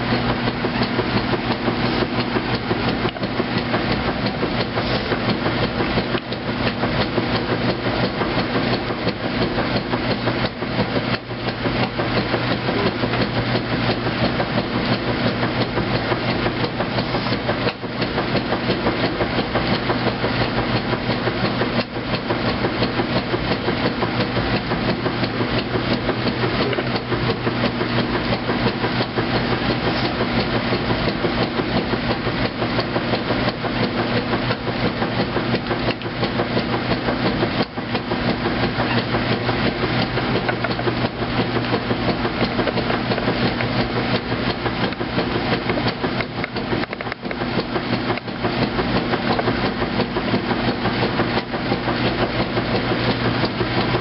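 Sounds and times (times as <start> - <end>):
washing machine motor hum: 0.0 - 54.0
washing machine rattling: 0.0 - 54.0.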